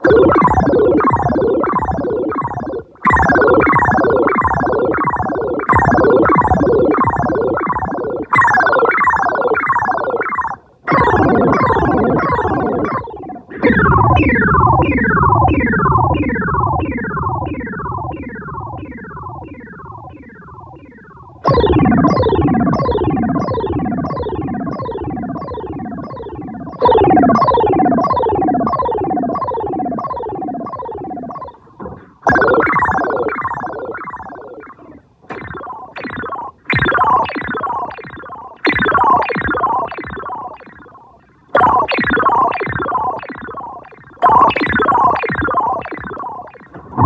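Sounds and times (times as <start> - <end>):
synthesizer falling pitch sweeps: 0.0 - 47.0.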